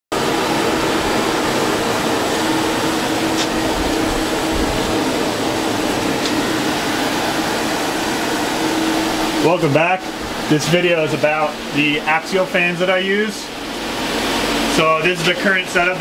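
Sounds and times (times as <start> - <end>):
low motor hum: 0.1 - 15.2
fans blowing air: 0.1 - 16.0.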